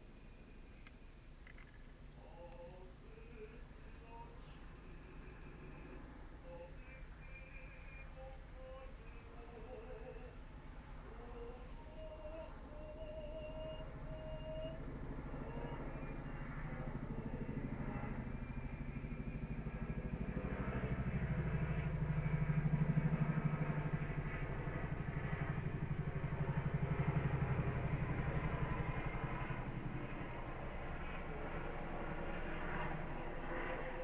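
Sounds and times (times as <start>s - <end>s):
passing vehicle engine rumble: 3.3s - 34.0s.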